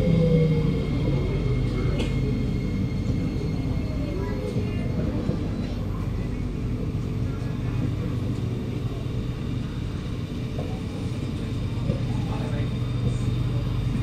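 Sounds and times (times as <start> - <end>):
train car low rumble: 0.0 - 14.0.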